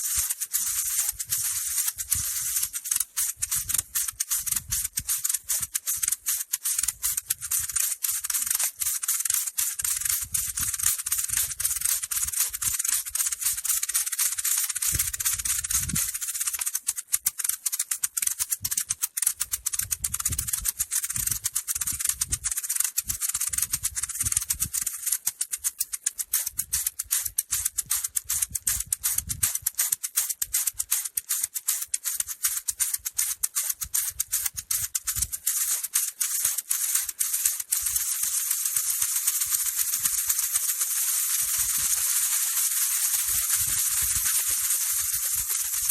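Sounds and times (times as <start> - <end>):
maracas rattling: 0.0 - 45.9.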